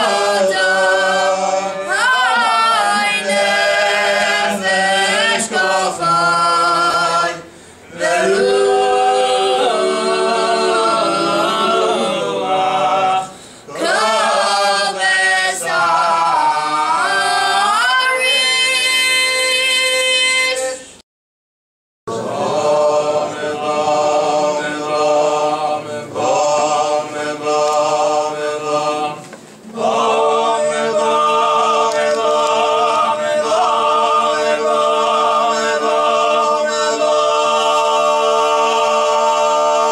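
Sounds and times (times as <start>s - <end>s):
men singing unaccompanied prayers: 0.0s - 19.9s, 22.1s - 39.9s.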